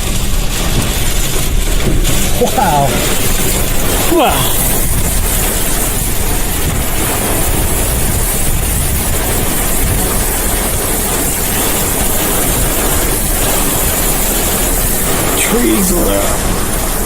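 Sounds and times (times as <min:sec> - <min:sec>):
gusting wind: 0:00.0 - 0:17.0
heavy rain on a car: 0:00.0 - 0:17.0.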